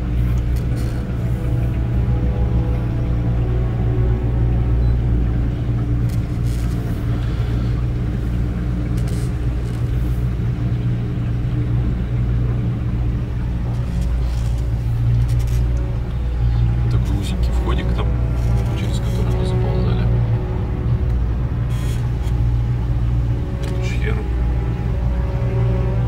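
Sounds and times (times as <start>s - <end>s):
motorboat engine running: 0.0s - 26.0s.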